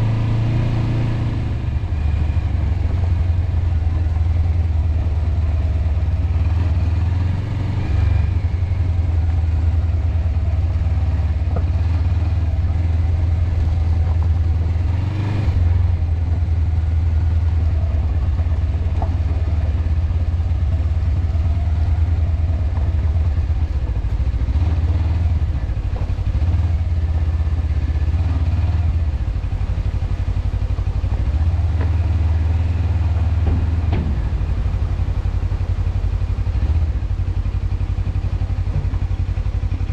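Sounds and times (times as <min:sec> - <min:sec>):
motorcycle engine drone: 0:00.0 - 0:39.9.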